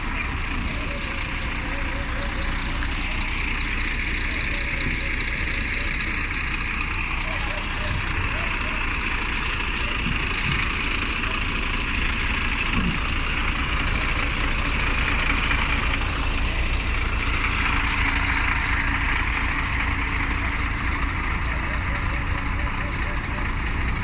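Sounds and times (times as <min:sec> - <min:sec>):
heavy vehicle engine idling: 0:00.0 - 0:24.0.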